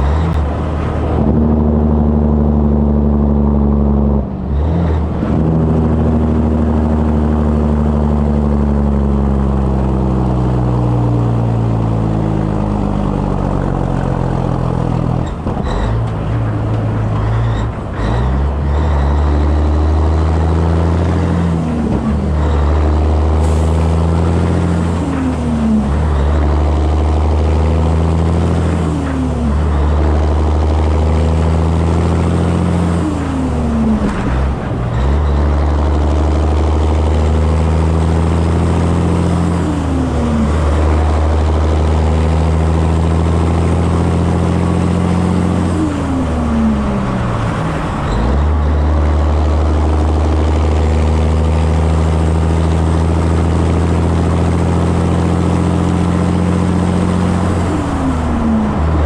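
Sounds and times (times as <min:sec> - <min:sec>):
diesel truck engine pulling: 0:00.0 - 0:59.0
wind and road noise: 0:00.0 - 0:59.0.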